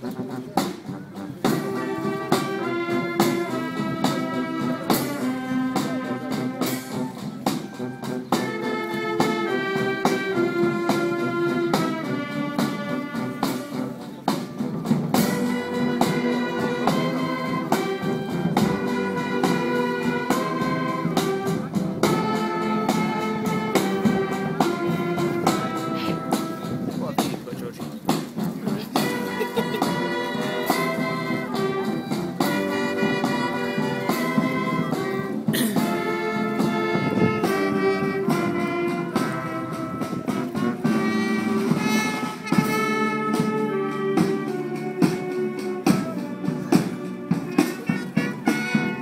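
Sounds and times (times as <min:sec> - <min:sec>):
brass horns melody: 0:00.0 - 0:27.0, 0:28.6 - 0:49.0
drum strikes: 0:00.0 - 0:49.0.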